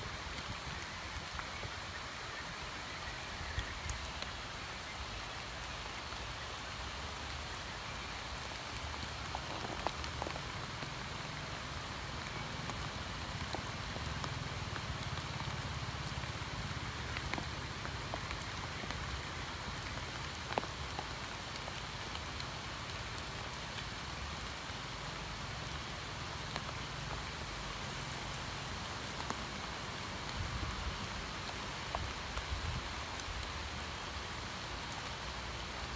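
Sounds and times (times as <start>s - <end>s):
rain on water hissing: 0.0s - 35.9s.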